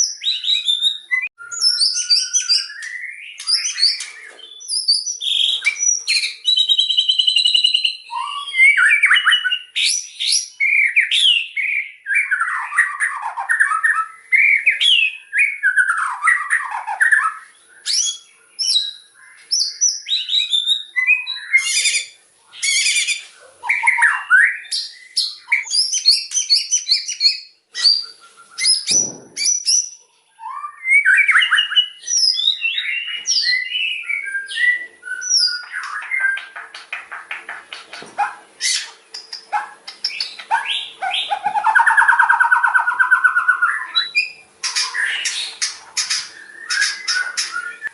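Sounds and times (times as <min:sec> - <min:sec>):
songbird whistles and trills: 0:00.0 - 0:47.9.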